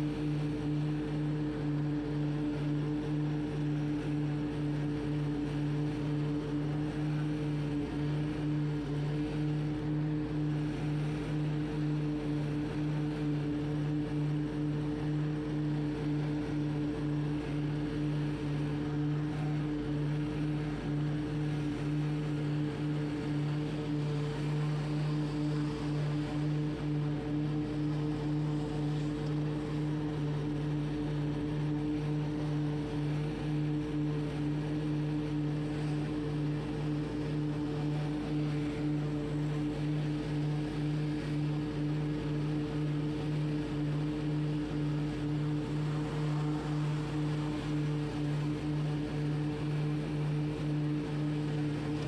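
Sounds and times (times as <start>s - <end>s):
mower engine drone: 0.0s - 52.0s.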